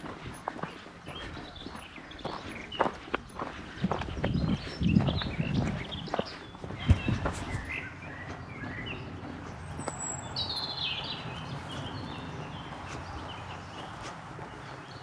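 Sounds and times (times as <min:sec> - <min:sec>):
footsteps on a path: 0:00.0 - 0:15.0
birds chirping and singing: 0:00.1 - 0:15.0.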